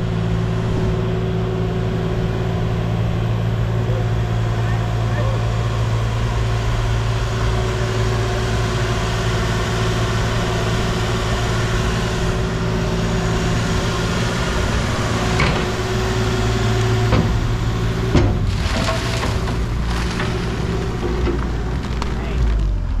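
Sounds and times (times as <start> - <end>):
heavy equipment engine running: 0.0 - 23.0.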